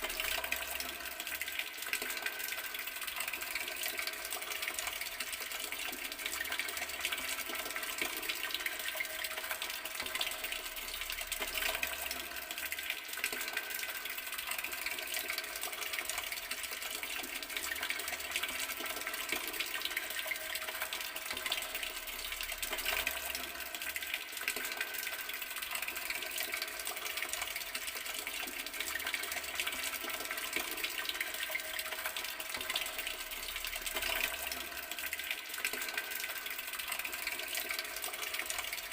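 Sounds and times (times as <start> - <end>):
water tap running: 0.0 - 38.9.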